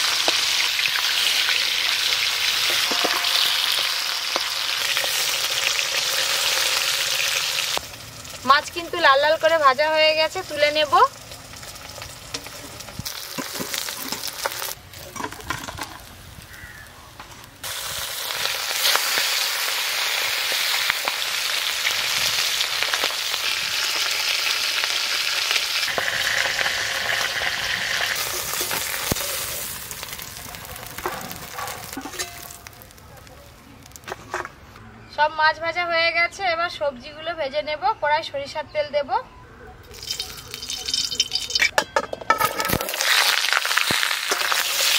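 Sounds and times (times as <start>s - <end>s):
fish sizzling in hot oil: 0.0s - 14.8s, 16.0s - 33.2s, 39.9s - 41.7s, 42.4s - 44.9s.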